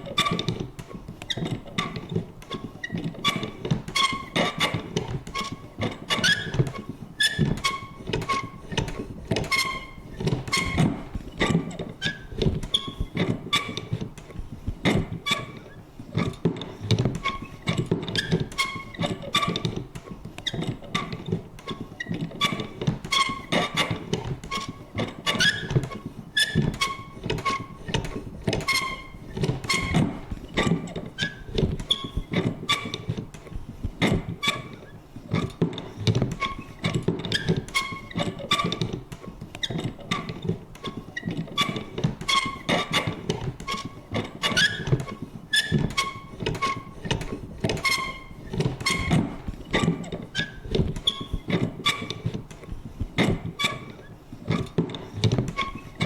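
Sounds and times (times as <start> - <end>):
high creaks from mechanism: 0.0 - 56.0.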